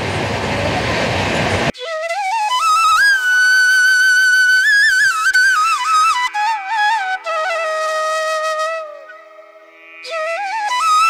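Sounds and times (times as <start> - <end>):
solo flute melody: 1.7 - 11.0.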